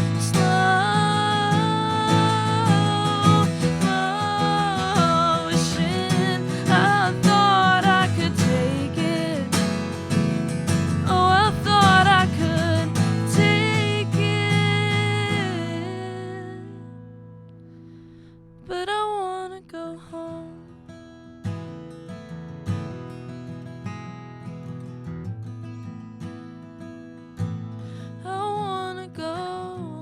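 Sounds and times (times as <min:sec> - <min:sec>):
band with acoustic guitar: 0:00.0 - 0:18.3, 0:21.0 - 0:28.2.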